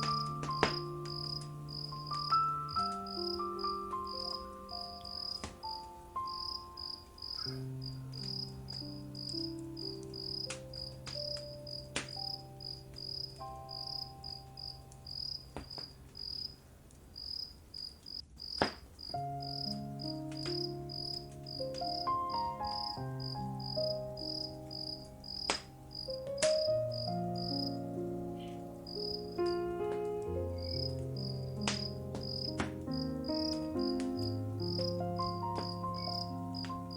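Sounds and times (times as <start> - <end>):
soft sustained music: 0.0 - 15.9, 19.1 - 36.9
crickets chirping: 0.0 - 36.9
wood fire crackling: 0.0 - 36.9.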